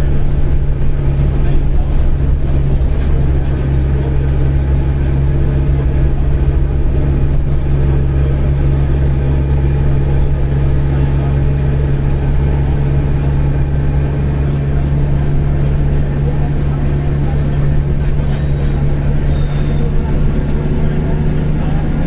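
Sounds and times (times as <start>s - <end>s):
diesel bus engine droning: 0.0s - 22.0s.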